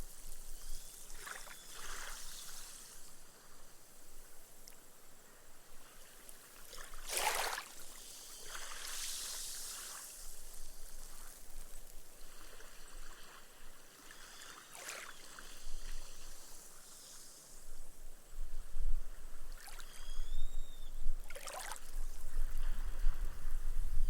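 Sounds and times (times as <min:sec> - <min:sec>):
small waves lapping on sand: 0:00.0 - 0:17.9, 0:21.2 - 0:23.6.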